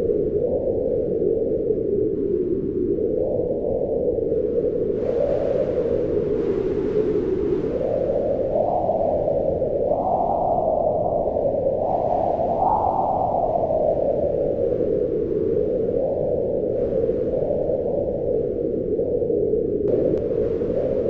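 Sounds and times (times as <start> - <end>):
howling blizzard wind: 0.0 - 21.0.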